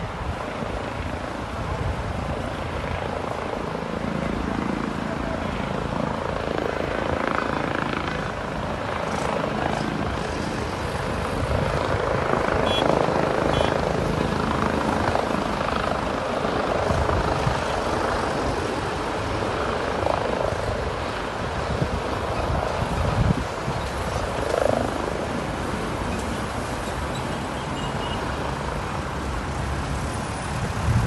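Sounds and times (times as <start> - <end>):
helicopter rotors and engine: 0.0 - 31.0.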